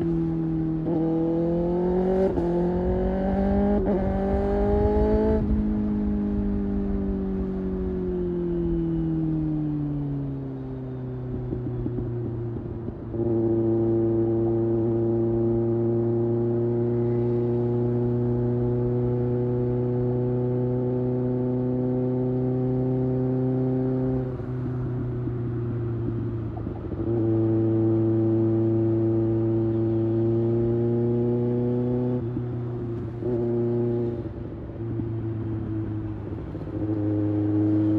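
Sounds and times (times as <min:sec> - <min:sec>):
motorcycle engine droning: 0:00.0 - 0:37.9.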